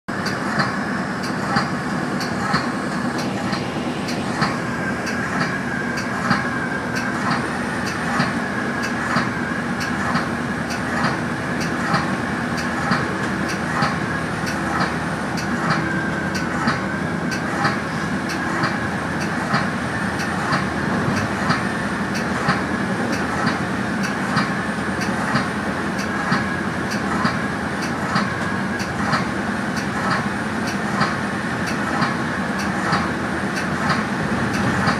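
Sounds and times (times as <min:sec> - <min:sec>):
rail clickety-clack: 0:00.1 - 0:34.9
train wheels rumbling: 0:00.1 - 0:34.9.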